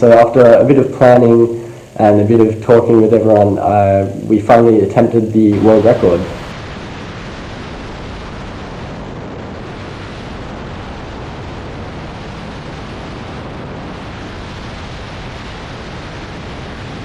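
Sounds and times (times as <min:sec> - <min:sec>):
wind roaring over microphone: 0:00.0 - 0:17.0.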